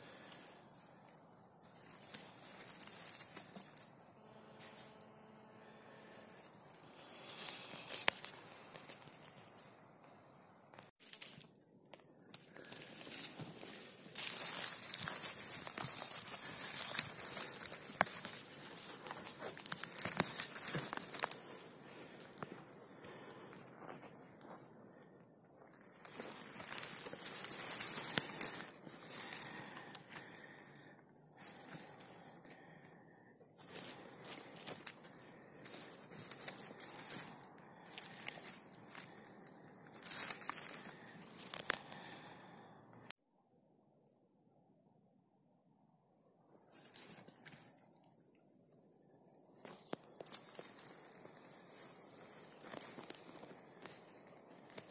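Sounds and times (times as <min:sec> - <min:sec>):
hand rustling dry needles: 0:00.0 - 0:09.8, 0:10.8 - 0:42.7, 0:46.6 - 0:54.9
twigs snapping: 0:01.6 - 0:05.0, 0:06.3 - 0:09.7, 0:10.7 - 0:24.6, 0:25.6 - 0:32.7, 0:33.6 - 0:42.5, 0:46.7 - 0:48.9, 0:49.6 - 0:54.9.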